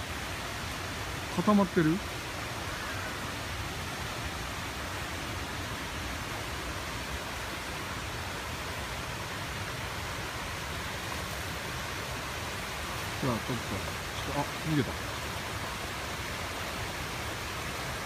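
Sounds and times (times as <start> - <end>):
rushing outdoor background noise: 0.0 - 18.0.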